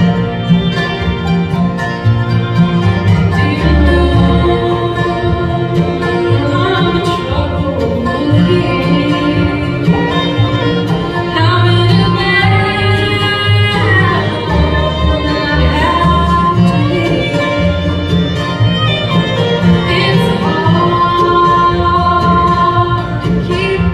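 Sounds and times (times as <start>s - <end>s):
bluegrass band playing: 0.0s - 23.9s
fiddle lead: 0.0s - 23.9s.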